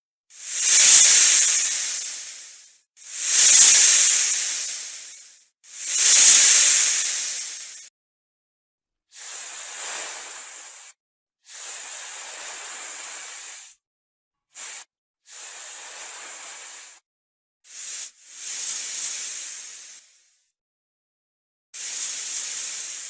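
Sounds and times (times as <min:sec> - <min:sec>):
snake hissing: 0:00.3 - 0:07.9, 0:09.2 - 0:13.8, 0:14.6 - 0:17.0, 0:17.7 - 0:20.4, 0:21.8 - 0:23.0.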